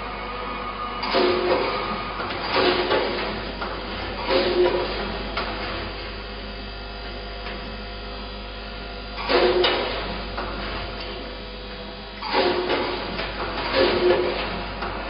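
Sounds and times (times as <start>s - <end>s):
vibratory feeders humming: 0.0s - 15.0s.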